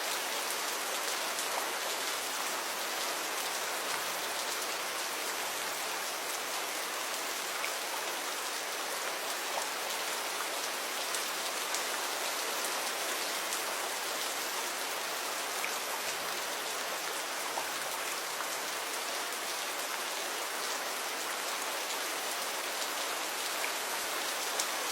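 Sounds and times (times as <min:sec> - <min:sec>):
gentle rain falling: 0:00.0 - 0:24.9.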